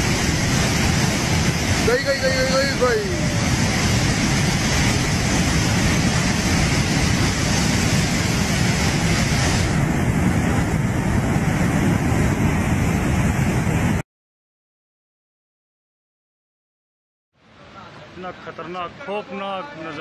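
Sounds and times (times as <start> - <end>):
flood water rushing: 0.0 - 14.0, 17.4 - 20.0.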